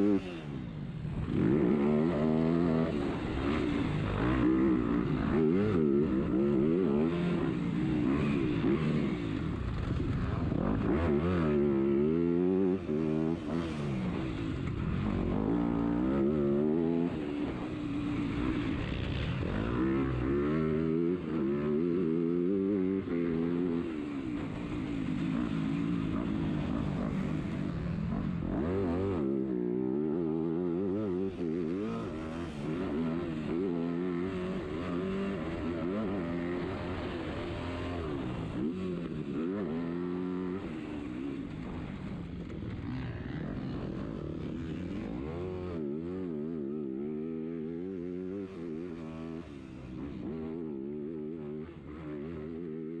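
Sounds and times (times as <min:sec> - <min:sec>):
motocross bike engine revving: 0:01.2 - 0:53.0.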